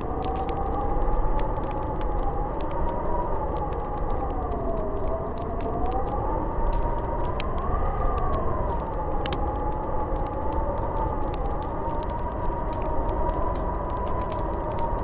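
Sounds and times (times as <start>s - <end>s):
wind howling and whistling: 0.0s - 15.0s.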